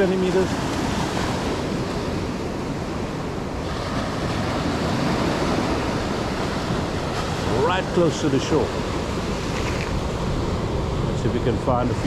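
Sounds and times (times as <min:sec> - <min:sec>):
ocean surf washing ashore: 0:00.0 - 0:12.0
wind on microphone: 0:00.0 - 0:12.0.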